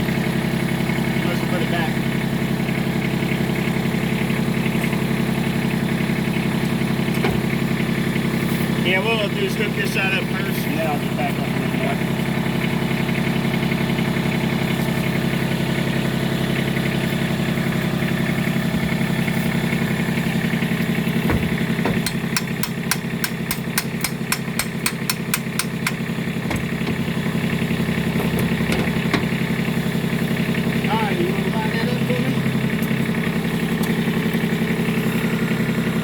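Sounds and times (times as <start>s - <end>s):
diesel tractor engine idling: 0.0s - 36.0s.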